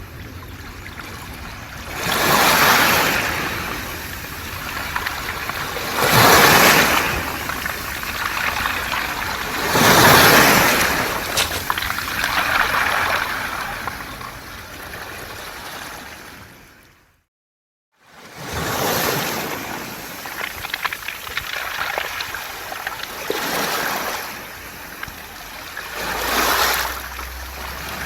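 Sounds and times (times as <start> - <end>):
water draining through stones: 0.2 - 14.8, 19.4 - 28.0
waves on pebble beach: 1.9 - 16.4, 18.3 - 28.0.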